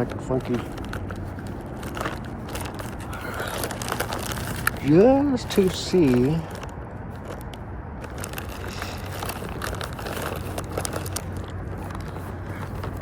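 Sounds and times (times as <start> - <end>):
fishing tackle clicks and rustles: 0.0 - 13.0.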